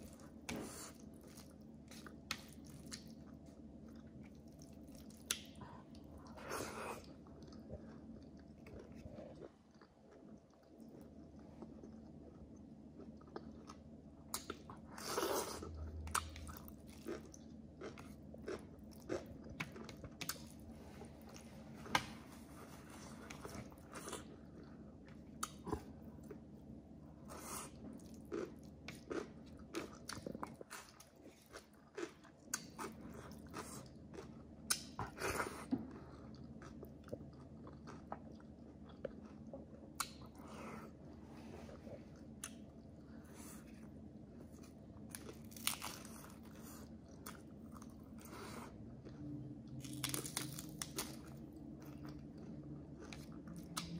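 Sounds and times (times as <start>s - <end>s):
person chewing and biting food: 0.0s - 26.5s, 27.2s - 40.9s, 42.1s - 53.9s.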